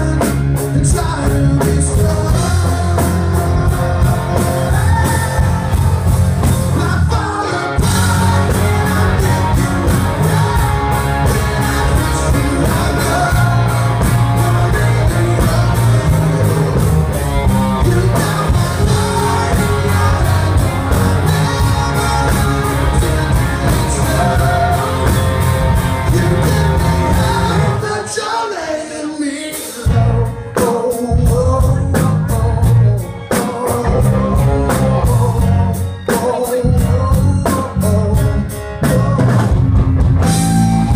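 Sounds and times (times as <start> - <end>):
man singing lead vocal: 0.0 - 39.6
live rock band: 0.0 - 40.9.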